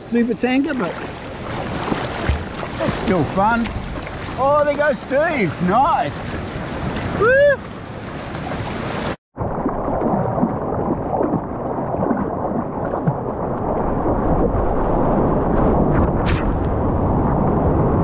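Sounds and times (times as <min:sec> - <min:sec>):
water rushing against surfboard: 0:00.5 - 0:16.8.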